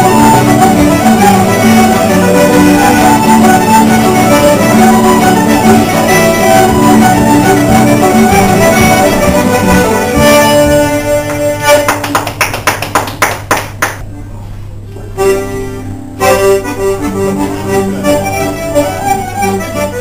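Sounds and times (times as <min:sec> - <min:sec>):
fiddle accordion and guitars playing: 0:00.0 - 0:12.2, 0:15.1 - 0:20.0.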